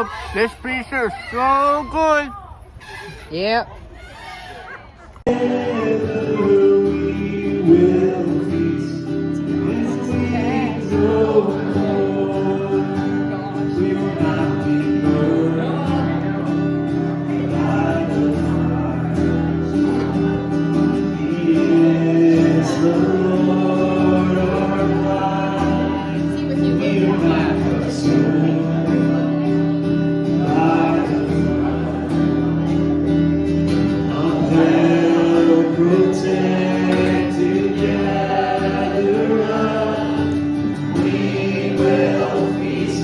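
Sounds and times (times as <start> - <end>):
group singing worship song: 5.3 - 16.4, 17.0 - 29.4, 30.2 - 32.2, 33.8 - 43.0.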